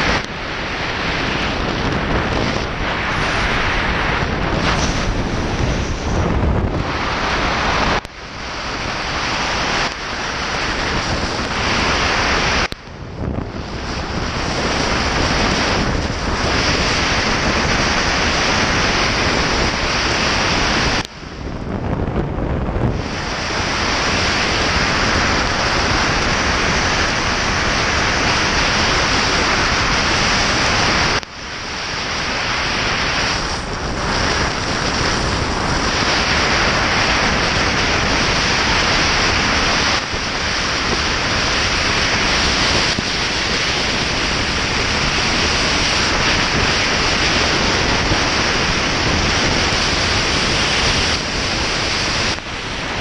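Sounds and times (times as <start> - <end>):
rain hissing on wet road: 0.0 - 21.6, 22.9 - 53.0
wind buffeting microphone: 0.0 - 53.0.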